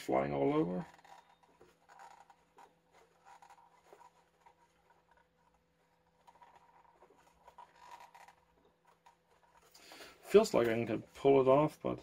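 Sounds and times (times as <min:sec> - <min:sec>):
fingers scratching plastic cover: 0:00.0 - 0:11.0.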